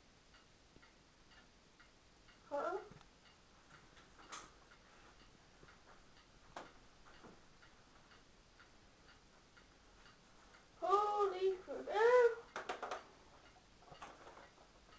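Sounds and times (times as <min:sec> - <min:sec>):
faint steady ticking: 0:00.0 - 0:14.9.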